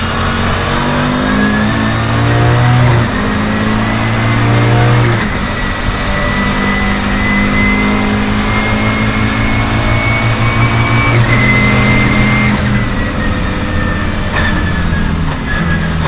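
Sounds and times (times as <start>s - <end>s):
car engine running hard: 0.0s - 16.0s
thin high whine: 0.0s - 16.0s.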